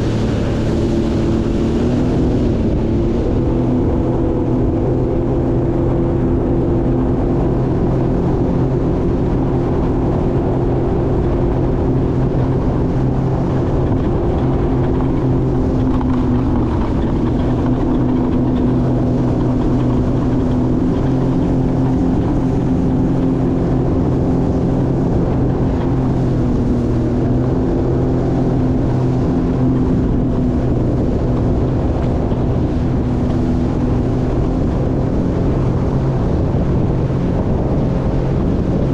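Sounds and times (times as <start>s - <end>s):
jet ski engine running: 0.0s - 38.9s
water noise: 0.0s - 38.9s.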